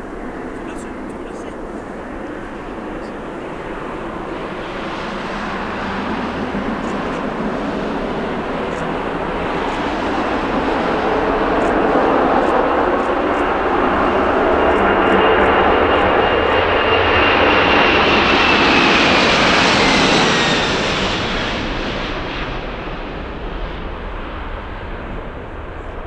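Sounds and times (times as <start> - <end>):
airliner engines roaring past: 0.0 - 26.0.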